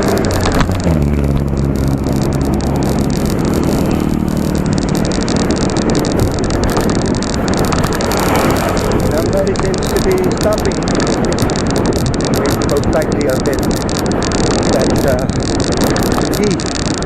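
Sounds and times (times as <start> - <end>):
vehicle engine passing close: 0.0 - 16.7
wind and road noise: 0.0 - 17.0.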